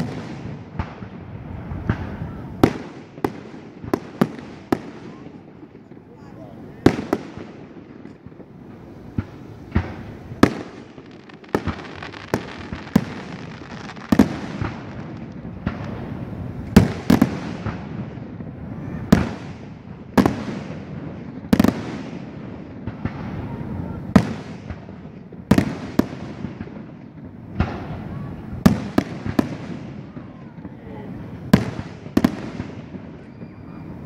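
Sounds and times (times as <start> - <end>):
firework shells booming: 0.0 - 33.8.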